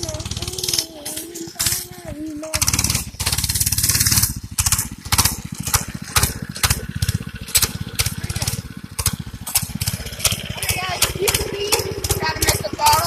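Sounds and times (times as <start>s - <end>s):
small single-cylinder engine running: 0.0s - 13.0s.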